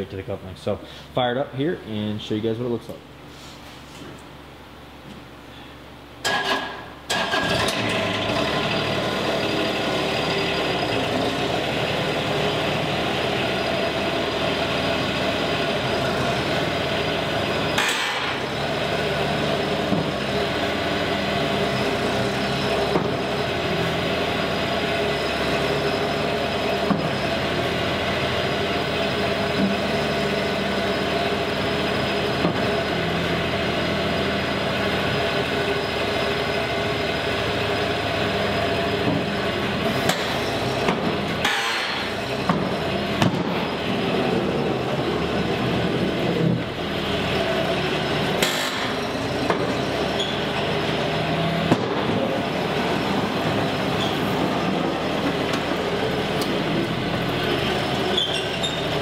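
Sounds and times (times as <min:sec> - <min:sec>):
loader engine starting and running: 0:06.1 - 0:59.0.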